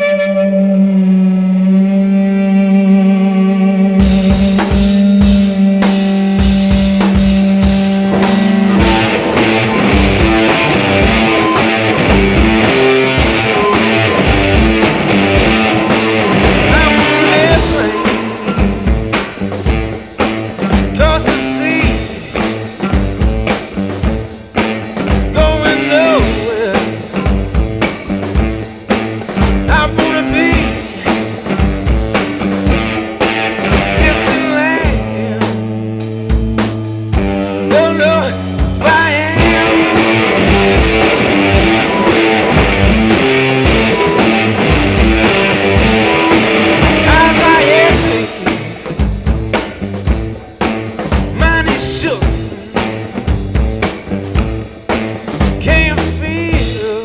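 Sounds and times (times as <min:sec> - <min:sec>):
bending guitar melody lines: 0:00.0 - 0:57.0
rock blues music: 0:00.0 - 0:57.0
drum kit beat: 0:04.0 - 0:57.0.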